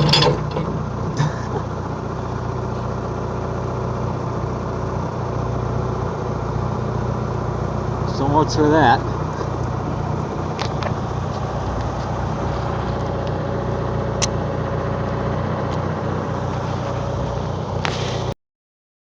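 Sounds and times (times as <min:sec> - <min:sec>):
backhoe engine idling: 0:00.0 - 0:18.4.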